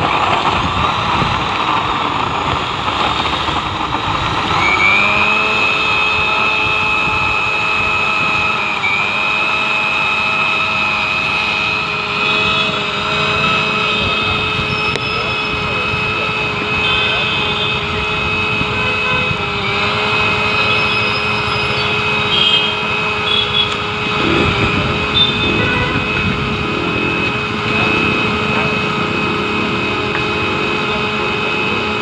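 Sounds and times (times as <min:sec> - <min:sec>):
mixer grinder motor running: 0:00.0 - 0:32.0.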